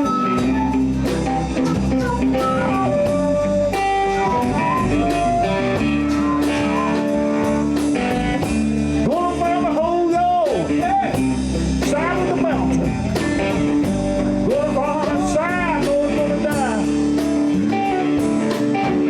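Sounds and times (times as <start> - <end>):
blues band playing: 0.0 - 19.0
electric guitar bent notes: 0.0 - 19.0.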